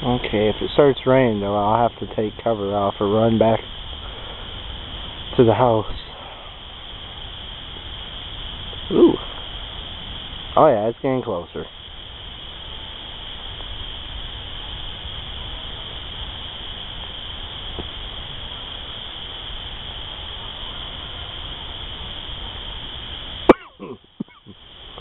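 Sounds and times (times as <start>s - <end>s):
chorus of night animals: 0.0s - 25.0s
low rumbling hiss: 0.0s - 25.0s.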